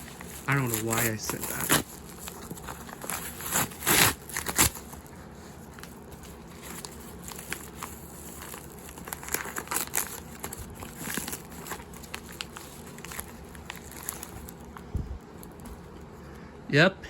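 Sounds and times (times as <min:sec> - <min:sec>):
packing material rustling: 0:00.0 - 0:16.2.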